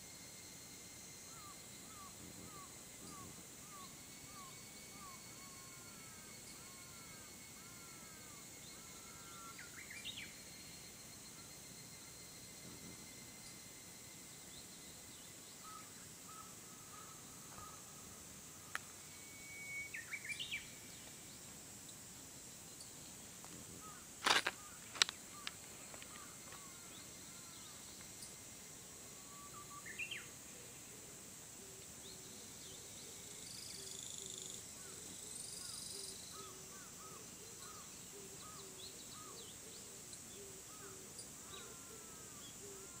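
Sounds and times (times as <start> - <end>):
high-pitched hiss: 0.0 - 43.0.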